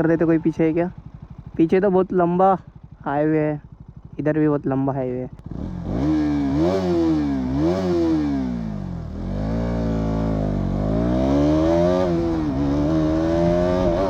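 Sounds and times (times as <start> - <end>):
motorcycle engine revving: 0.0 - 4.4, 5.2 - 14.0.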